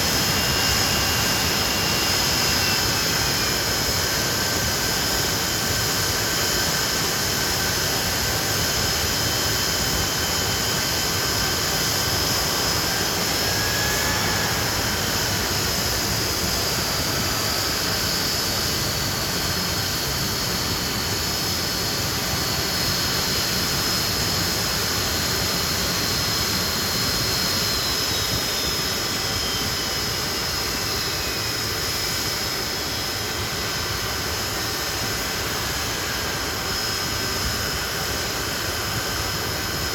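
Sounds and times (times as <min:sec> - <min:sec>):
high-pitched engine whine: 0:00.0 - 0:39.9
jet engines roaring: 0:00.0 - 0:39.9.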